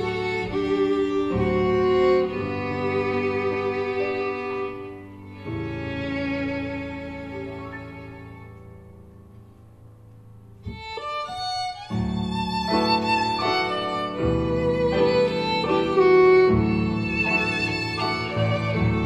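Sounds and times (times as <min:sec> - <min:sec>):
fiddle-led instrumental music: 0:00.0 - 0:19.0.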